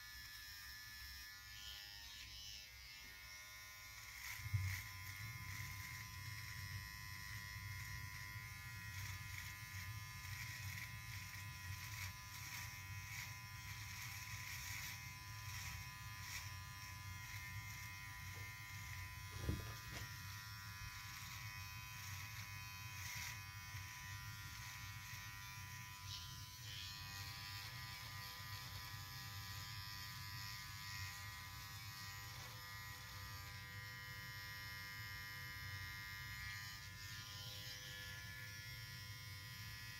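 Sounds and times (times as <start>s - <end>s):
hair trimmer buzzing: 0.0s - 39.9s.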